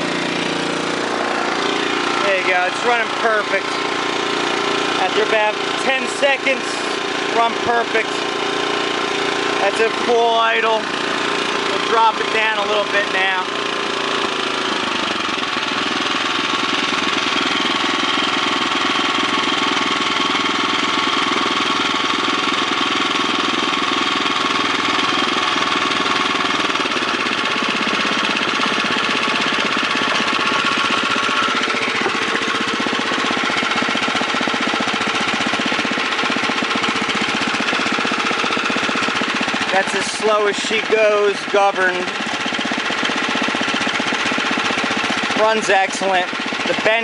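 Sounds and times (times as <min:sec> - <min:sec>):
small engine idling: 0:00.0 - 0:47.0.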